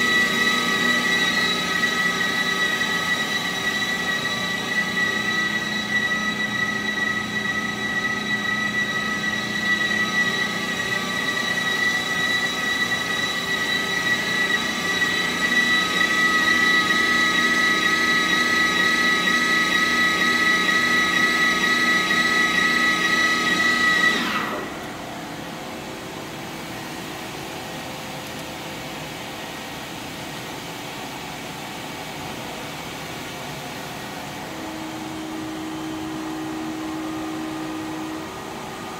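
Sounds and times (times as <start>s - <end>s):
machine high-pitched whine: 0.0s - 38.9s
machine low idle hum: 0.0s - 38.9s.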